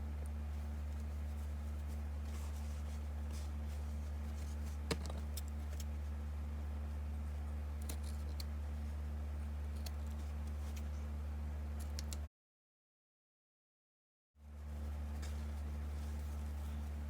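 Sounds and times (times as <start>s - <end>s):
low electrical hum: 0.0s - 12.3s, 14.4s - 17.0s.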